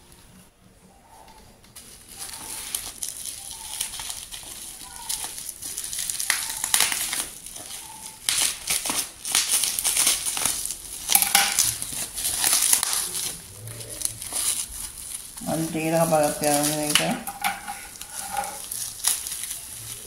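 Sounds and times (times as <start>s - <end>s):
bubble wrap crinkling: 1.6s - 20.0s.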